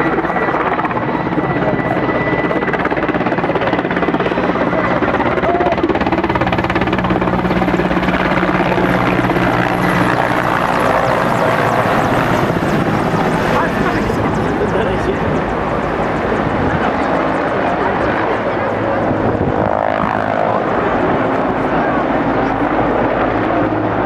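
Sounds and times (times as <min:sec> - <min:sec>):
helicopter engines running: 0:00.0 - 0:24.0
helicopter rotor chop: 0:00.0 - 0:24.0.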